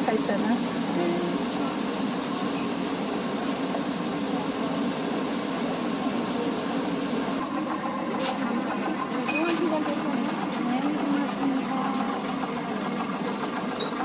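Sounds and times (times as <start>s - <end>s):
machine humming and hissing: 0.0s - 14.0s.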